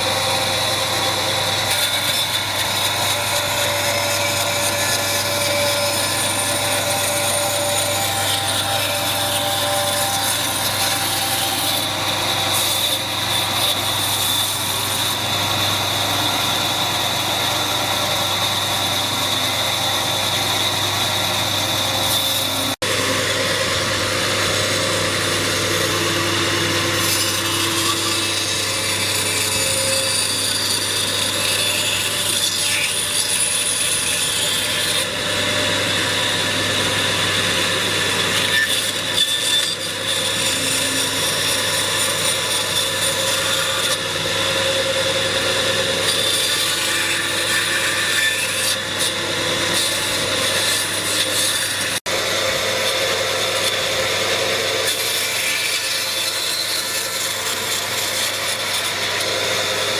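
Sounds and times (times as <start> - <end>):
tool cutting wood: 0.0 - 59.9.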